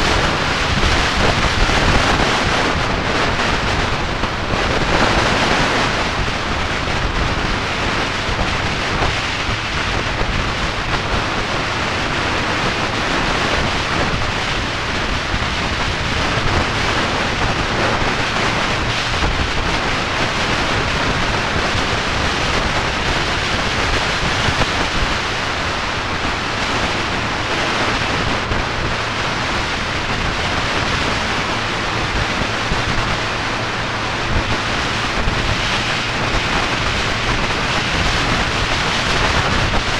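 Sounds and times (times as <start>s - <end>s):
motorcycle running: 0.0s - 39.9s
wind buffeting microphone: 0.0s - 39.9s.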